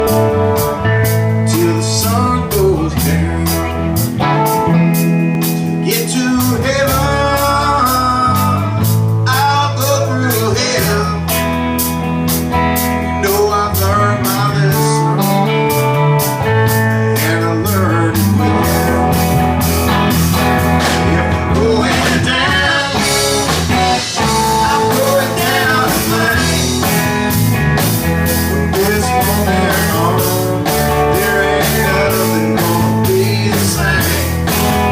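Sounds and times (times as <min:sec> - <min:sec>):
bass: 0:00.0 - 0:34.9
drums with cymbal beat: 0:00.0 - 0:34.9
electric guitar lead: 0:00.0 - 0:34.9.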